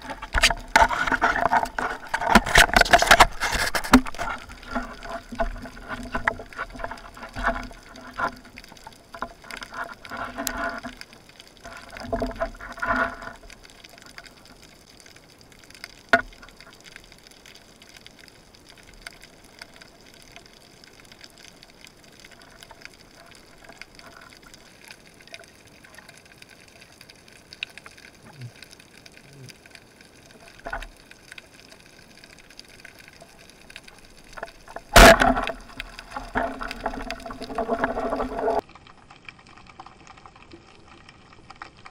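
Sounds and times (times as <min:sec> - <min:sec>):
low steady hiss: 0:00.0 - 0:41.9
underwater sloshing: 0:00.0 - 0:41.9.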